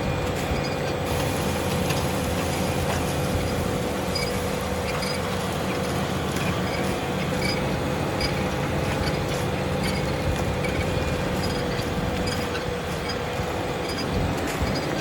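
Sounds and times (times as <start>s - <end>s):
constant whine: 0.0s - 15.0s
tractor diesel engine running: 0.0s - 15.0s.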